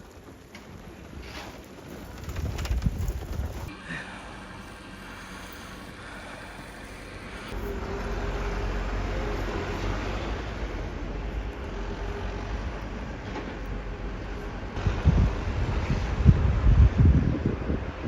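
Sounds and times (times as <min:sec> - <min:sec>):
outdoor traffic noise: 0:00.0 - 0:18.0
faint steady hum: 0:01.8 - 0:17.8.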